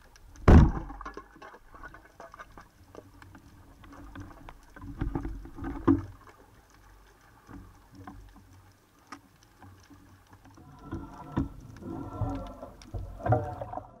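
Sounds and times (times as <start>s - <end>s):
underwater water movement: 0.0s - 14.0s
water sloshing: 0.4s - 14.0s.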